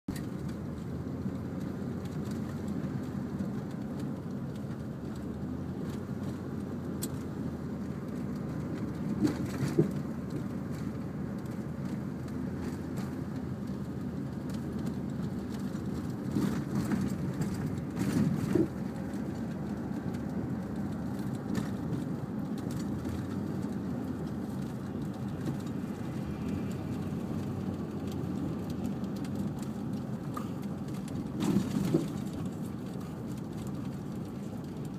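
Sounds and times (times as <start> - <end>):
vehicle rumbling: 0.0 - 34.9.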